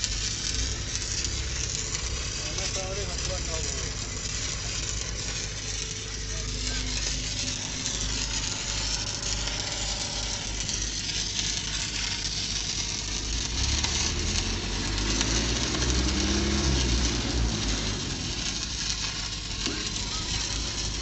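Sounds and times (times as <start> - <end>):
engine drone: 0.0 - 21.0
welding arc crackling: 0.0 - 21.0.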